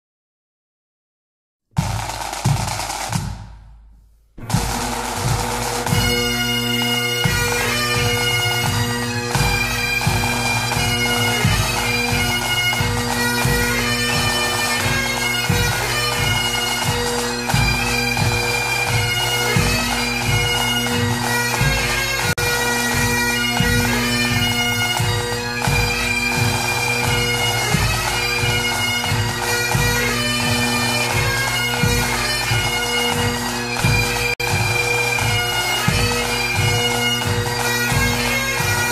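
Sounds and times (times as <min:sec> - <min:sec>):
drum beats: 0:01.7 - 0:38.9
bagpipe melody with drones: 0:04.4 - 0:38.9.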